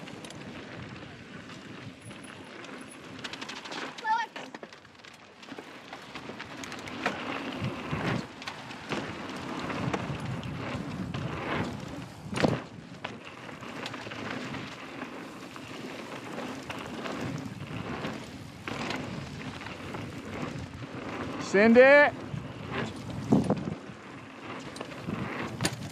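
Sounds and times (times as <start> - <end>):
bike knocks and rattles: 0.0 - 25.9
bike tyres rolling on dirt: 0.0 - 25.9.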